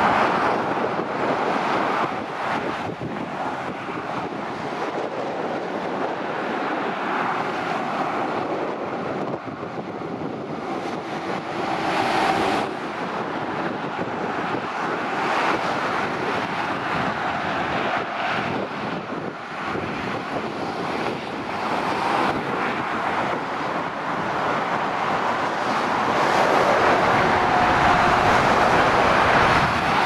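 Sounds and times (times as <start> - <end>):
motorway traffic passing: 0.0 - 30.0.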